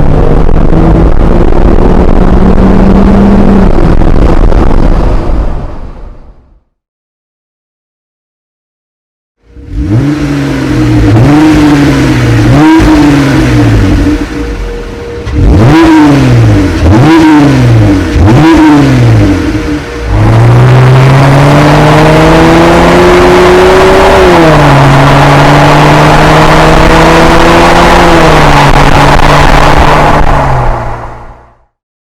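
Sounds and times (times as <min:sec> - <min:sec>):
car engine revving: 0:00.0 - 0:05.3, 0:09.4 - 0:31.7.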